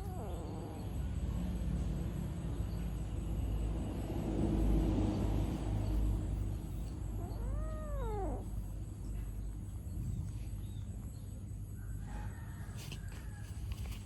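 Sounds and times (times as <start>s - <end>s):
steady low rumble: 0.3s - 11.8s.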